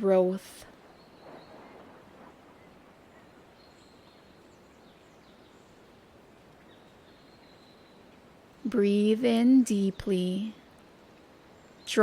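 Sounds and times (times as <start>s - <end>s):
soft steady hiss: 0.0s - 12.0s.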